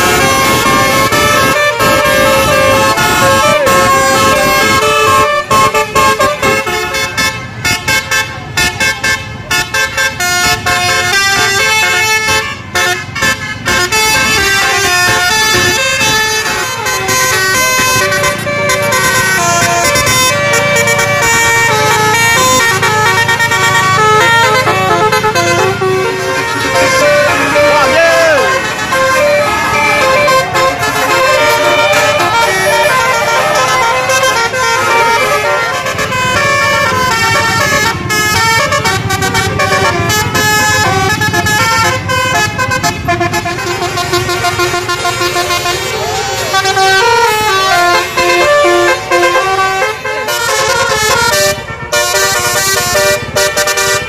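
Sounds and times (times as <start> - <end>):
bus air horns playing tunes: 0.0 - 54.0.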